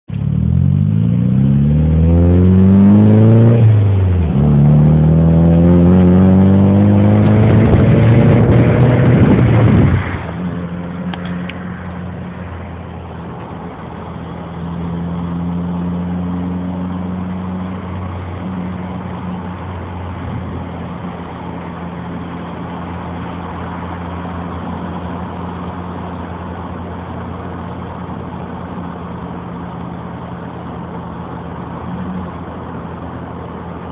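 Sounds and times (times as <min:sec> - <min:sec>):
car engine accelerating: 0:00.1 - 0:33.9.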